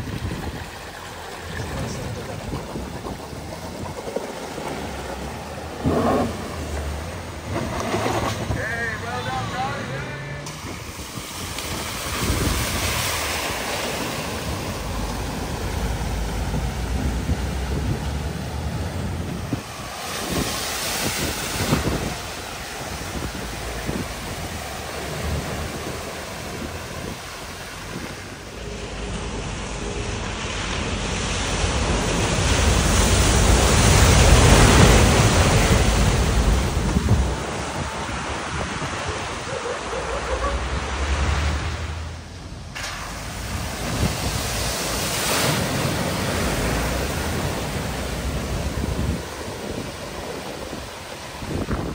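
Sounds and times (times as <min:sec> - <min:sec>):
wind buffeting microphone: 0:00.0 - 0:41.0, 0:41.6 - 0:51.9
floodwater rushing and splashing: 0:00.0 - 0:51.9.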